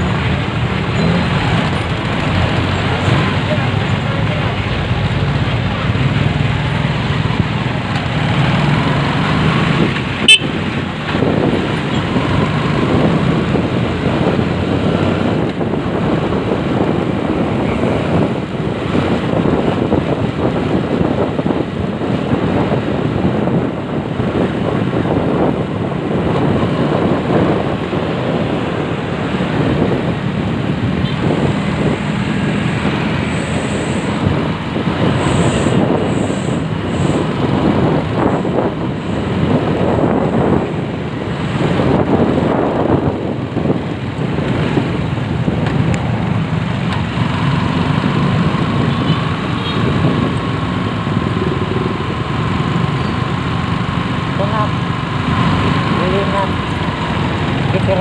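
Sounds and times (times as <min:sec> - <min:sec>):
motorcycle engine and road noise: 0:00.0 - 0:58.0
traffic: 0:00.0 - 0:58.0.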